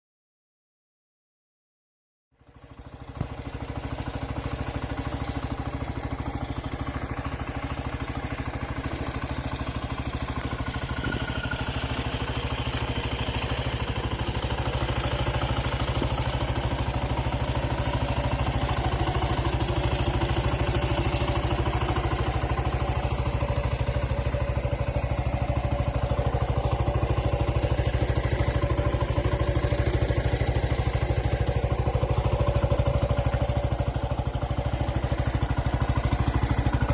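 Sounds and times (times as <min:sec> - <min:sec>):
motorcycle engine idling: 0:02.3 - 0:36.9.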